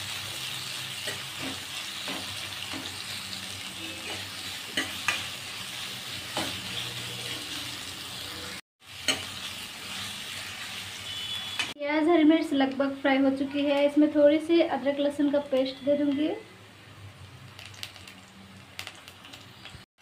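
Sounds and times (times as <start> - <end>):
onions sizzling in hot oil: 0.0 - 16.4, 17.3 - 19.8.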